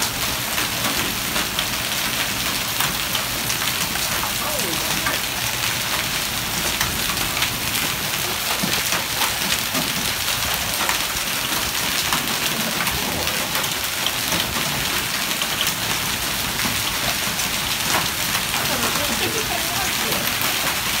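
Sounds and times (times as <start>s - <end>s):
hail and rain pelting concrete: 0.0s - 21.0s.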